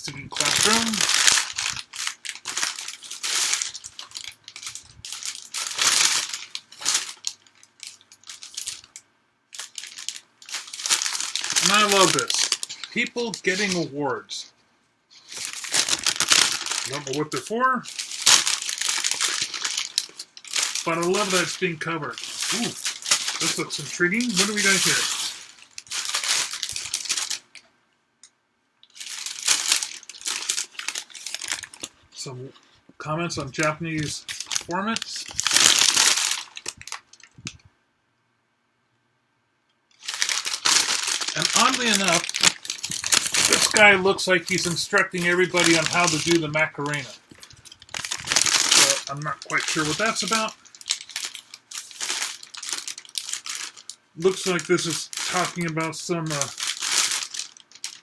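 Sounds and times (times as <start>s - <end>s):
newspaper pages rustling: 0.3s - 8.9s, 9.6s - 14.0s, 15.1s - 27.6s, 28.9s - 31.9s, 33.5s - 37.5s, 40.0s - 58.0s.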